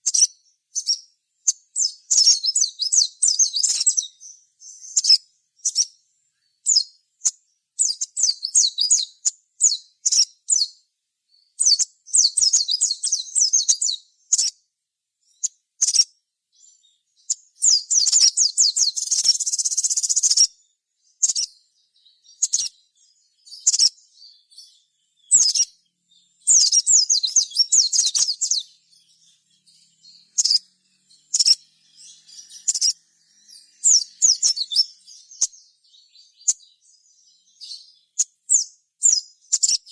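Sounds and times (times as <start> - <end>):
sunbird twittering trills: 0.0 - 39.9.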